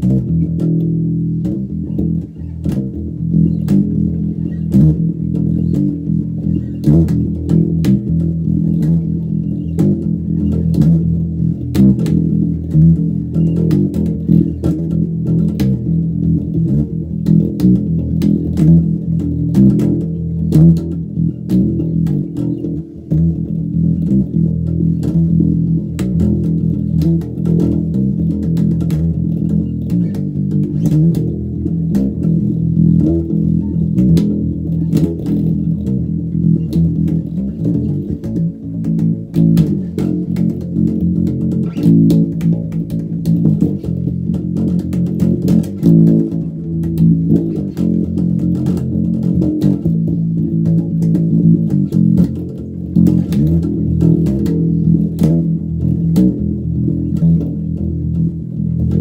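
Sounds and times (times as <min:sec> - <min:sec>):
electric bass riff: 0:00.0 - 0:59.0
fingers clicking on strings: 0:00.0 - 0:59.0.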